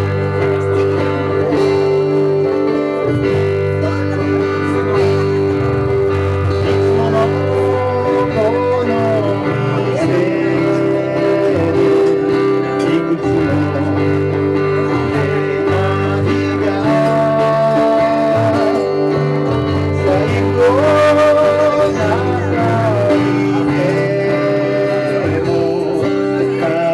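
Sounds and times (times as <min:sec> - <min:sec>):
acoustic guitars strummed: 0:00.0 - 0:26.9
man singing into a microphone: 0:00.0 - 0:26.9.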